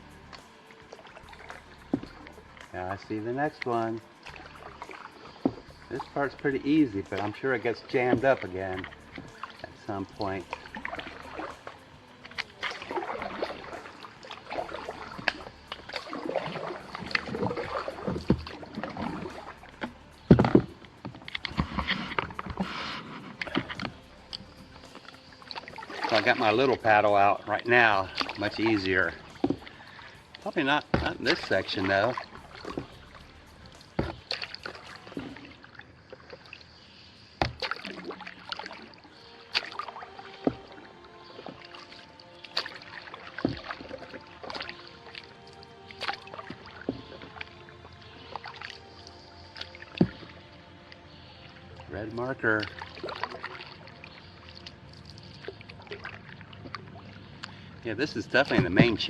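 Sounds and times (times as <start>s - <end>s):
paddle splashing in water: 0.0s - 59.0s
water drips: 0.0s - 59.0s.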